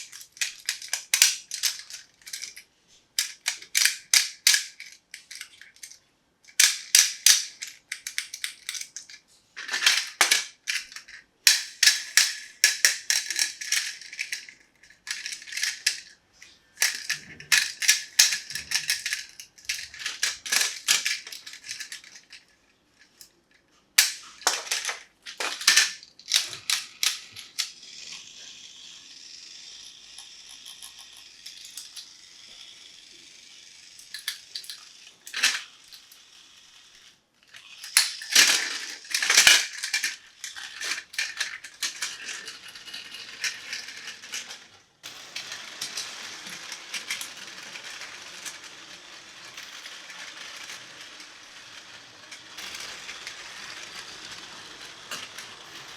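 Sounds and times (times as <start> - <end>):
plastic toy parts clattering: 0.0 - 2.6, 3.2 - 23.3, 24.0 - 32.7, 33.4 - 55.9.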